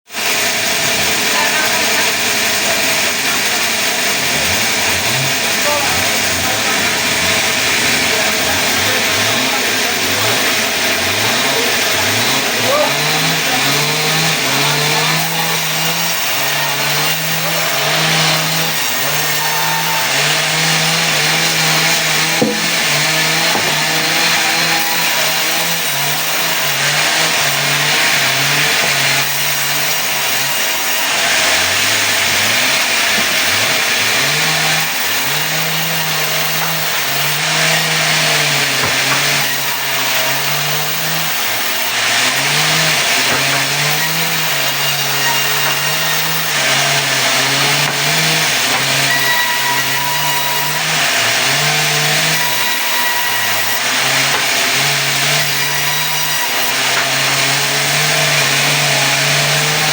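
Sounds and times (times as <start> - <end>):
sawmill saw cutting wood: 0.0 - 59.9.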